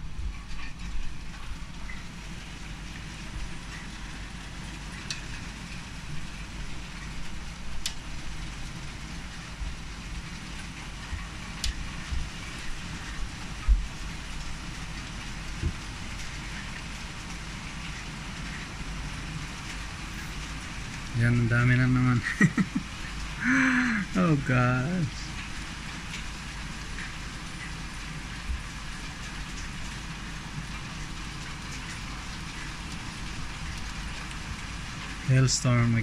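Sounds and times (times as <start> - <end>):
hailstones ticking: 0.0 - 36.0
rain pelting wooden deck: 0.0 - 36.0.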